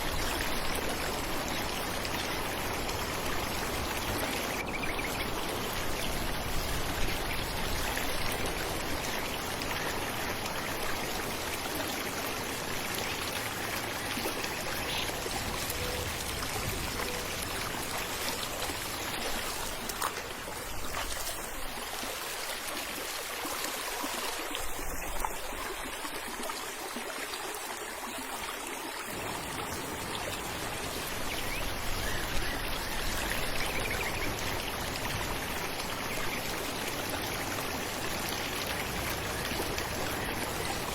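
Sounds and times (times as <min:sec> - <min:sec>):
falling water rushing: 0:00.0 - 0:40.9.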